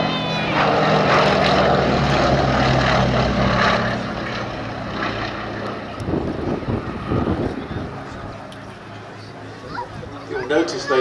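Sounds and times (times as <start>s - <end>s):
radial aircraft engine droning: 0.0s - 11.0s.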